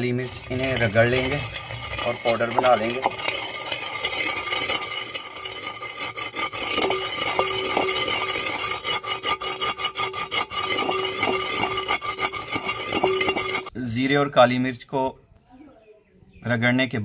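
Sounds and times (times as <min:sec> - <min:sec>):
pestle grinding in mortar: 0:00.0 - 0:13.8.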